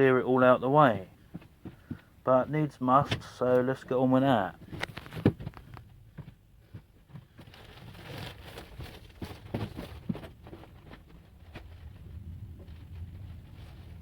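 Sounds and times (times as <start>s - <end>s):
faint rustling: 0.9s - 14.0s.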